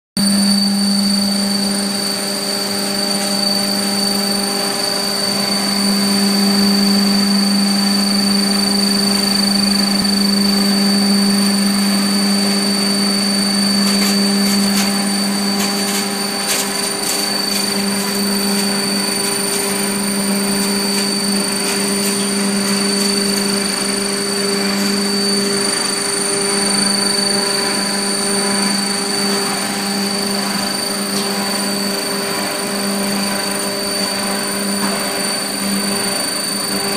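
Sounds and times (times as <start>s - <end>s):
hammer mill droning: 0.2s - 36.9s.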